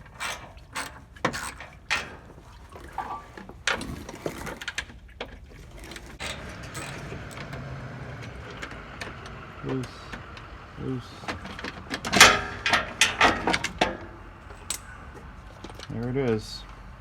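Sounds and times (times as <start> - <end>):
tools and bolts clinking: 0.0 - 17.0.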